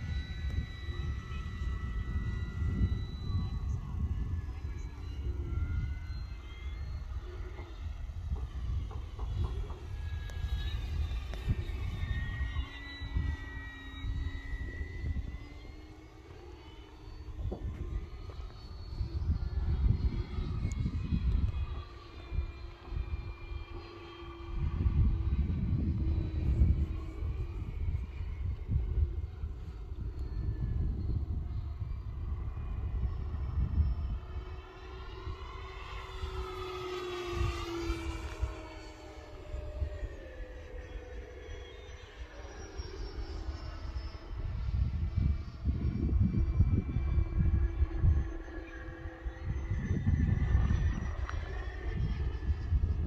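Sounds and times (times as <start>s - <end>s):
model airplane motor whine: 0.0s - 53.0s
wind buffeting microphone: 0.0s - 53.0s.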